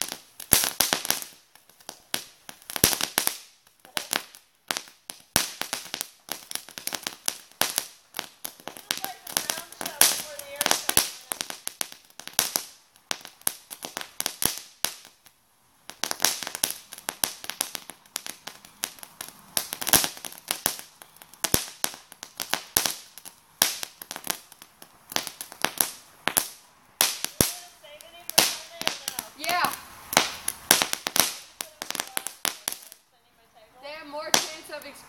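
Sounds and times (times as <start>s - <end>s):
firework crackling: 0.0s - 35.0s.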